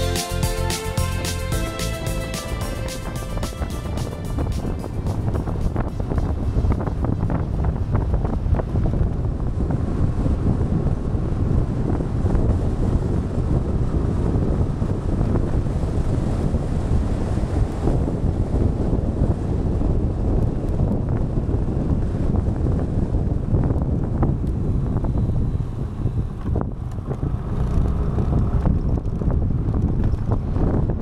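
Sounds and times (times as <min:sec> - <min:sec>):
wind buffeting microphone: 0:02.7 - 0:31.0.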